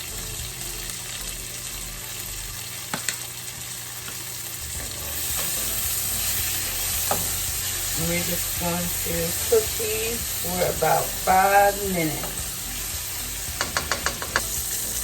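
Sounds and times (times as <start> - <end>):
tomatoes sizzling in a frying pan: 0.0 - 15.0.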